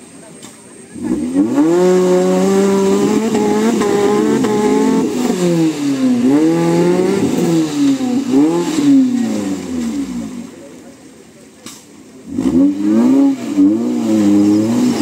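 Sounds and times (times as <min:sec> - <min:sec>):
engine revving hard: 0:00.9 - 0:10.6, 0:12.2 - 0:15.0.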